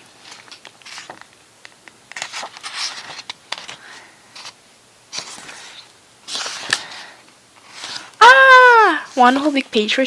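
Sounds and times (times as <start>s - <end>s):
book pages rustling: 0.0s - 8.2s.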